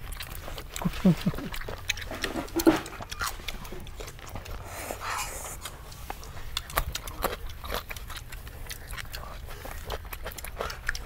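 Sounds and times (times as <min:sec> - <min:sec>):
people chewing and crunching: 0:00.0 - 0:11.0.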